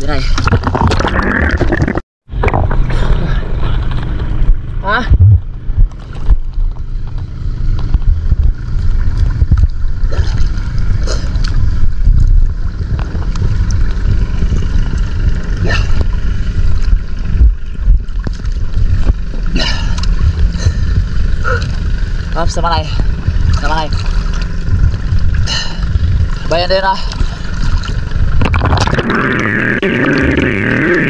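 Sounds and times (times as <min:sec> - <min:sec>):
wind buffeting microphone: 0:02.2 - 0:29.1
water washing against boat hull: 0:05.5 - 0:31.0.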